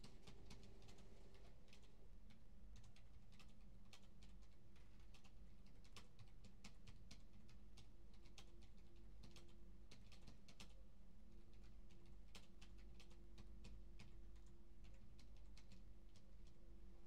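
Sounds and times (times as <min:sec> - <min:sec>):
keyboard typing: 0:00.0 - 0:10.8, 0:11.5 - 0:16.6
low steady hum: 0:00.0 - 0:17.0.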